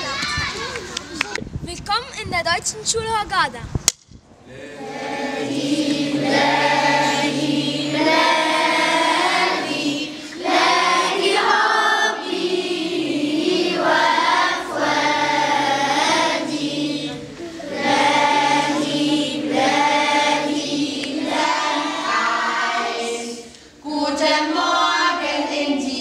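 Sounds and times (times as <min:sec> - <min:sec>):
children's choir singing: 0:04.4 - 0:26.0.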